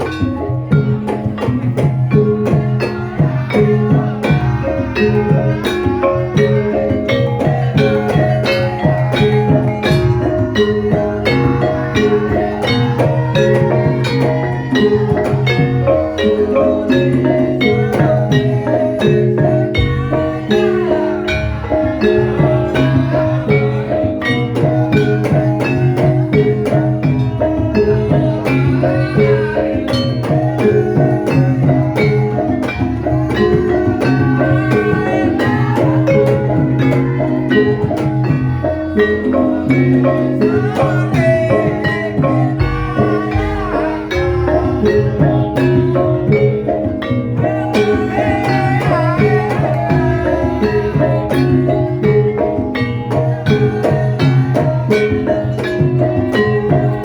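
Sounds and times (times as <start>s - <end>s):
gliding melody line: 0.0s - 57.0s
metallophones ringing melodic patterns: 0.0s - 57.0s.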